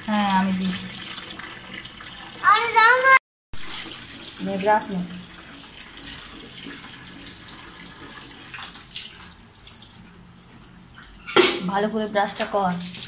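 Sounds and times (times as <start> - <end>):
water running into plastic basin: 0.0 - 13.0.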